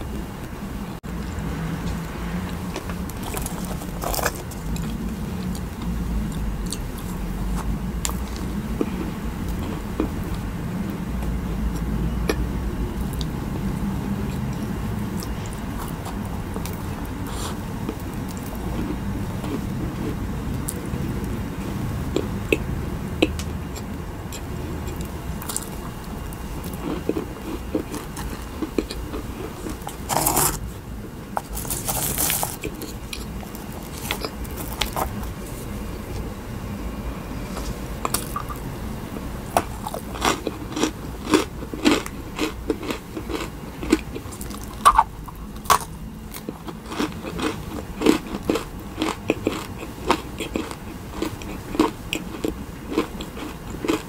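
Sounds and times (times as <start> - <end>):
low steady hum: 0.0 - 54.0
chewing and biting: 1.9 - 10.4, 14.2 - 21.0, 22.1 - 30.7, 31.4 - 36.2, 37.5 - 38.6, 39.6 - 54.0.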